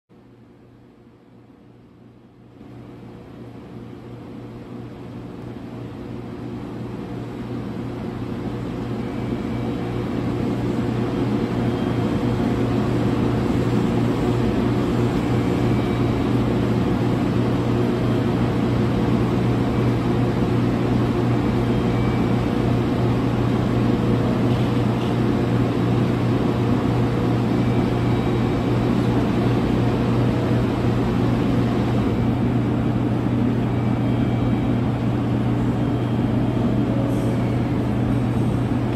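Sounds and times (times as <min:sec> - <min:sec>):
train equipment humming: 0:00.2 - 0:38.9.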